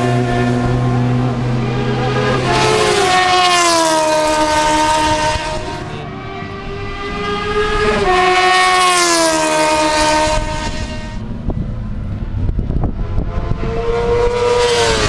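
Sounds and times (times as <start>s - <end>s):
motorcycle engines passing at speed: 0.0s - 15.0s.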